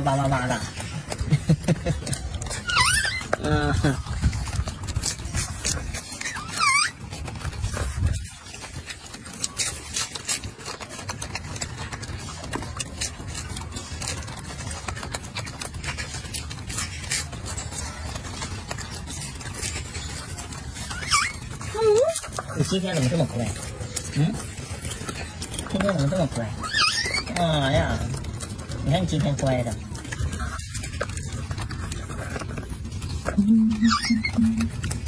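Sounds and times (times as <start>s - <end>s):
monkey chewing lettuce: 0.0s - 35.0s.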